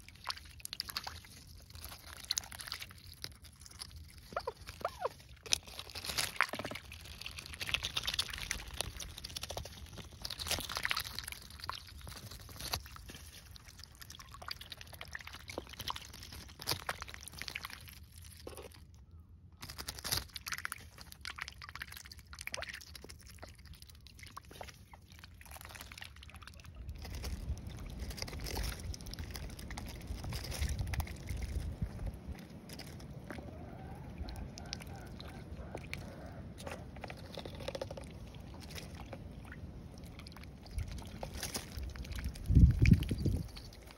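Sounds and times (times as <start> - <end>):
ducks dabbling and splashing: 0.0 - 19.0, 19.6 - 43.9
bill clicks and crunches: 0.6 - 43.9.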